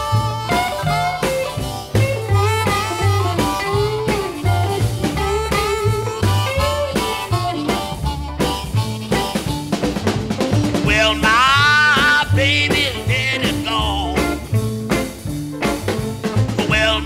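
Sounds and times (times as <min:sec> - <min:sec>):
blues band playing: 0:00.0 - 0:17.0
lead instrument bending melody: 0:00.0 - 0:17.0.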